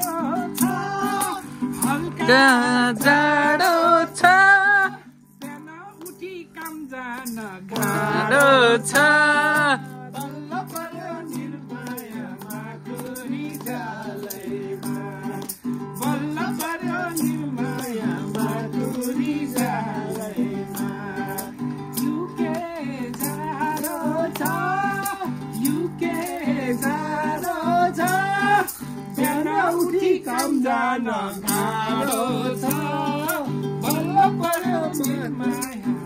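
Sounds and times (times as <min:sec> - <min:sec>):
plucked strings: 0:00.0 - 0:30.8
person singing with vibrato: 0:00.0 - 0:36.0
shaker rhythm: 0:00.0 - 0:36.0.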